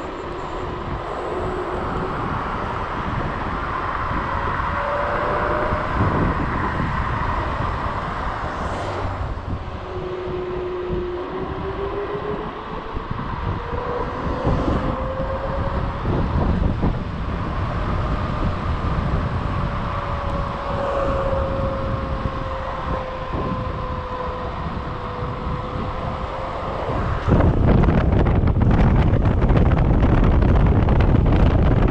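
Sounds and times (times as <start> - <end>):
electric scooter motor whining: 0.0 - 31.4
wind and road rush: 0.0 - 31.9.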